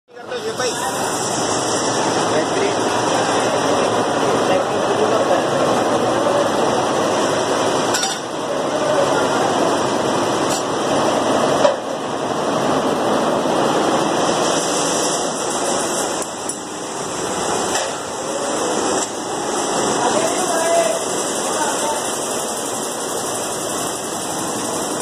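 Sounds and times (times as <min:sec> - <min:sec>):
embroidery machines clattering: 0:00.2 - 0:25.0.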